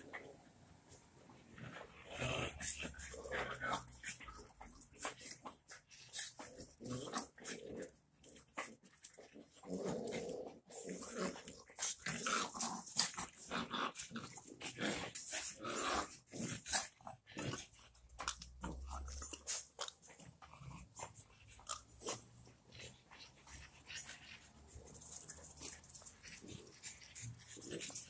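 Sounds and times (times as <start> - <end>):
dogs growling: 1.5 - 28.0.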